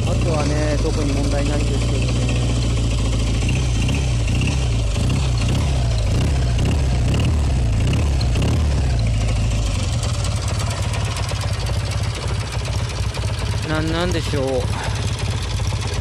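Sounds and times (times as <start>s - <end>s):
hard metallic engine clicking: 0.0s - 16.0s
motorcycle engine revving: 0.0s - 16.0s.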